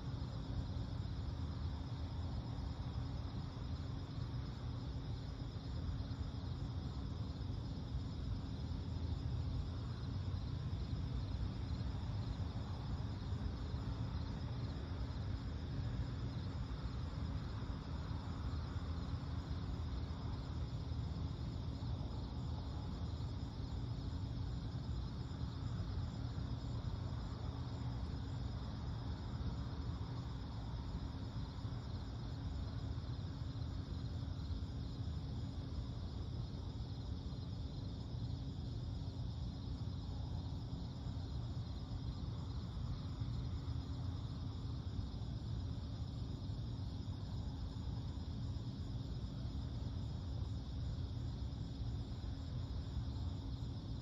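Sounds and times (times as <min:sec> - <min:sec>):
constant low rumble: 0:00.0 - 0:54.0
crickets and insects trilling: 0:00.0 - 0:54.0.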